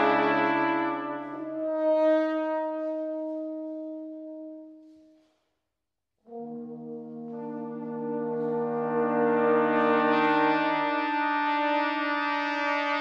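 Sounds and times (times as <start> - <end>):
brass quartet playing: 0.0 - 4.7, 6.3 - 13.0.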